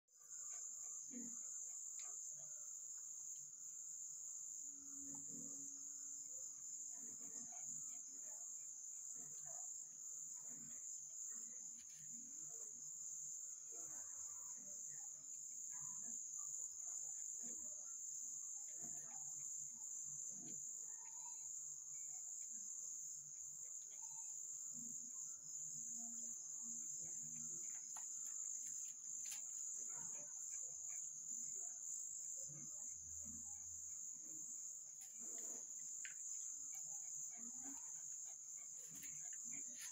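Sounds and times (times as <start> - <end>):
crickets chirping: 0.2 - 39.9.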